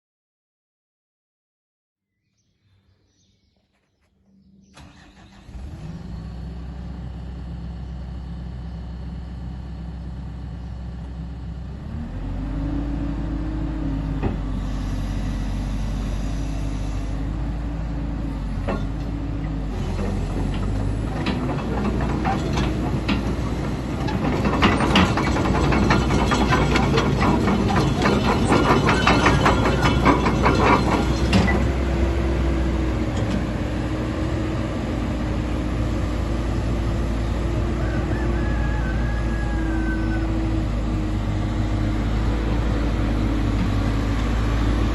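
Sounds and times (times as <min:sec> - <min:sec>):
diesel engine cranking and running: 0:04.7 - 0:44.9.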